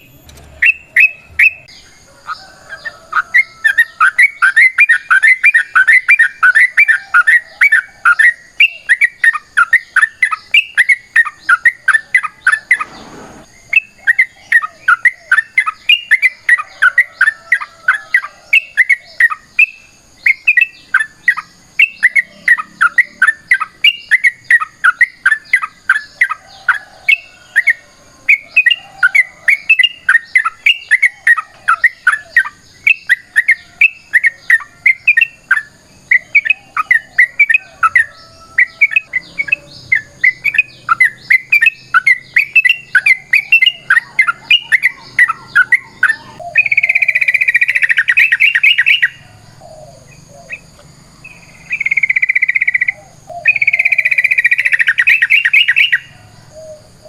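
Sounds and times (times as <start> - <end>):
bird singing chattering phrases: 0.0 - 57.0.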